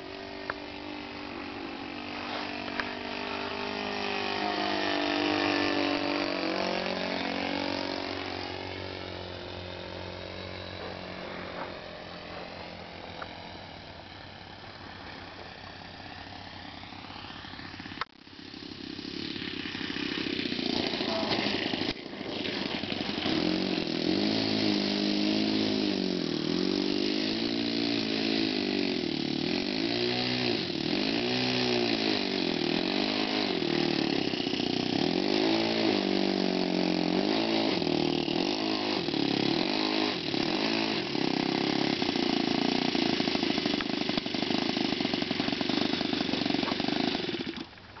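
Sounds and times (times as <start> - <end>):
model airplane engine at high revs: 0.0 - 48.0.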